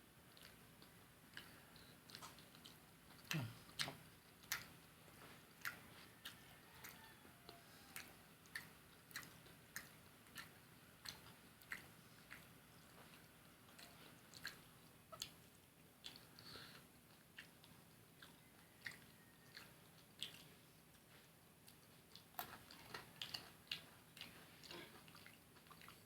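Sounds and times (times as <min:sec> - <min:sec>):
quiet chewing with crunches: 0:00.0 - 0:26.0.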